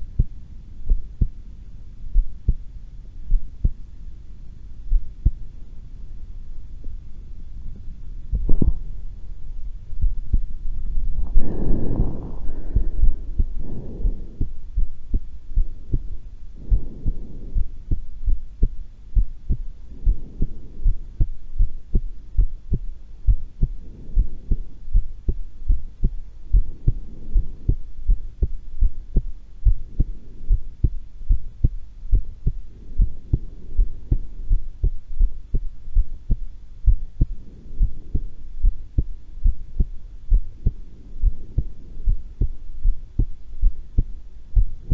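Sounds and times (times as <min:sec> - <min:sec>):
heartbeat thumps: 0:00.0 - 0:01.4, 0:02.1 - 0:04.0, 0:04.8 - 0:05.6, 0:08.2 - 0:44.9.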